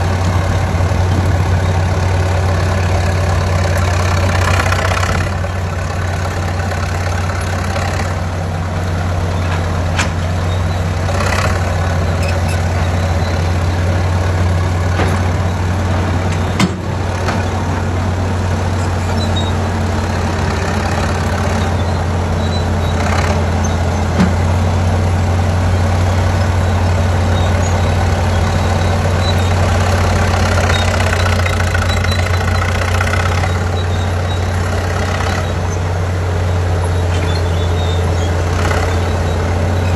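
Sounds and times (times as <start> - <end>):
loader engine running: 0.0 - 39.9.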